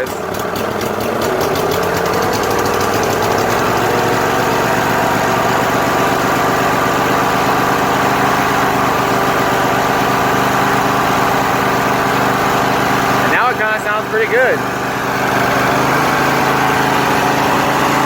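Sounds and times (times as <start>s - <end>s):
lawn tractor engine running: 0.0s - 18.0s.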